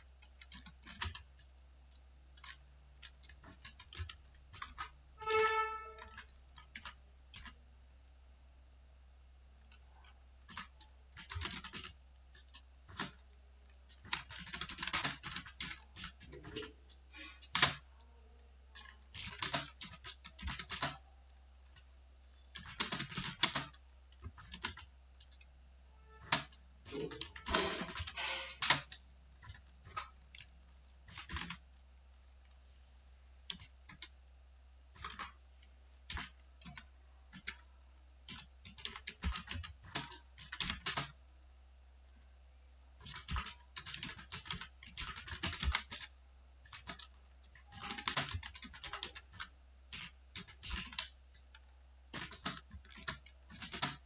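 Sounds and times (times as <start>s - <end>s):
typing on computer keyboard: 0.1s - 7.6s, 9.6s - 25.5s, 26.1s - 31.6s, 33.4s - 34.2s, 34.9s - 41.2s, 43.0s - 54.0s.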